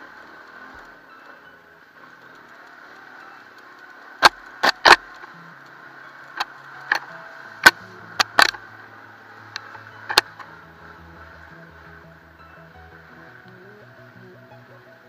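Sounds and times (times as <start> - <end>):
muffled engine hum: 0.0 - 15.0.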